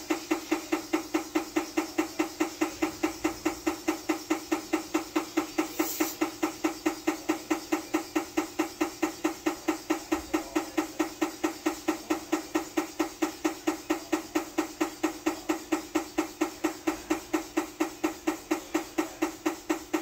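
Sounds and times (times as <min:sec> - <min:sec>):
mechanical ticking clicks: 0:00.0 - 0:20.0.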